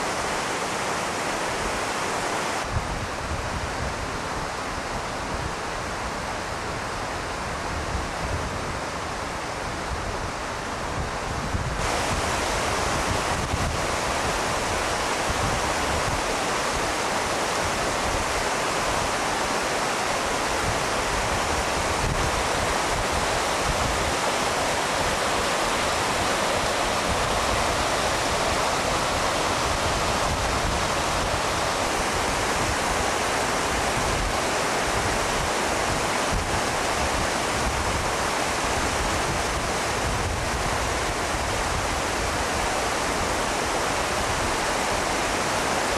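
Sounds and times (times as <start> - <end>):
river rushing over rocks: 0.0 - 45.9.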